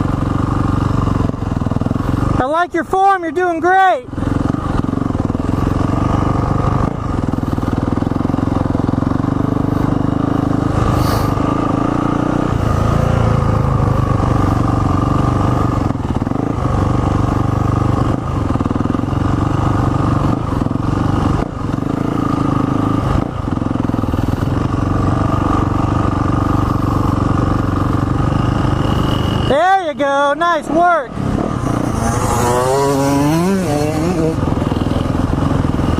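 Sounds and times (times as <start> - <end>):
dirt bike engine running: 0.0 - 35.9.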